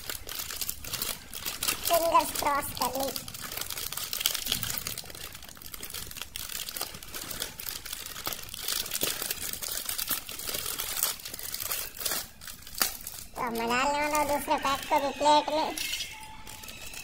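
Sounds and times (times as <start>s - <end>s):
plastic snack packet crinkling: 0.0s - 17.0s.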